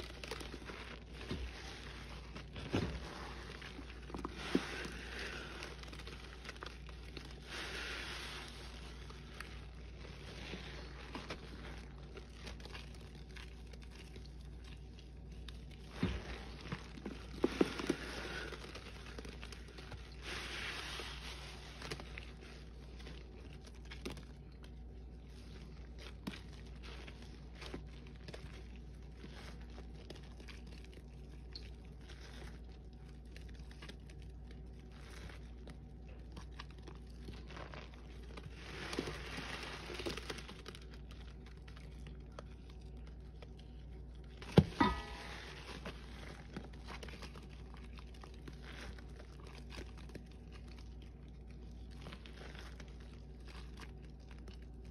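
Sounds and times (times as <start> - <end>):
crackling of suds: 0.0 - 54.9
wet sponge squelching: 0.0 - 54.9.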